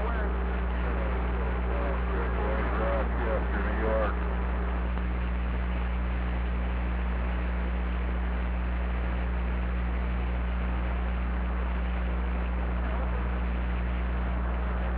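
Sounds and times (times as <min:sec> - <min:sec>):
constant low hum: 0:00.0 - 0:14.9.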